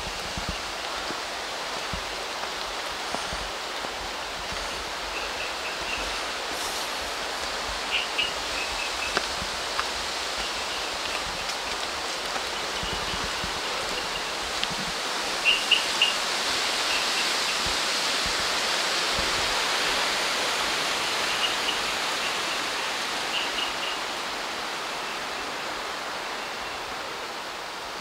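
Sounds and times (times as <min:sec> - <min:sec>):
wind through trees: 0:00.0 - 0:28.0.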